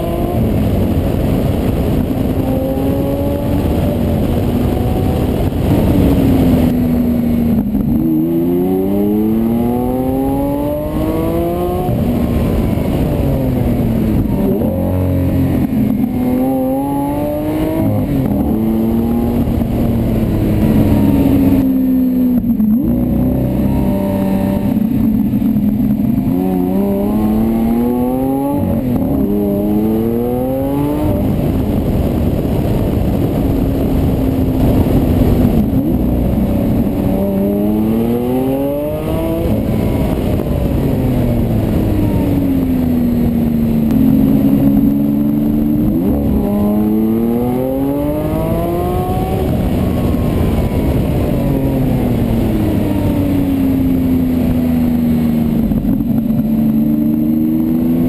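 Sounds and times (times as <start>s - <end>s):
sports car engine accelerating: 0.0s - 58.0s.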